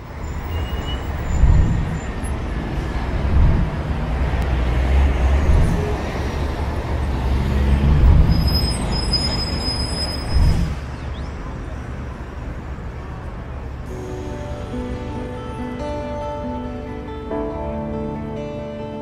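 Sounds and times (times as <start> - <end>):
passing vehicles rumbling: 0.0 - 19.0.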